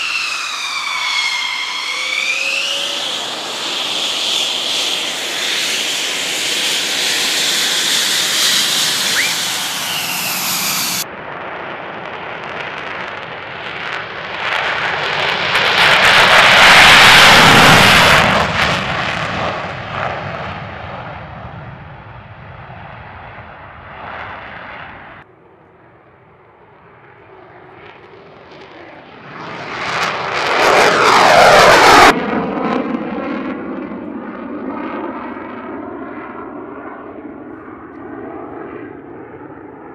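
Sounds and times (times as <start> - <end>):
jet passing by: 0.0 - 25.2, 26.7 - 39.9
fighter jet engine whine: 0.0 - 39.9
jet takeoff with afterburner: 0.0 - 39.9.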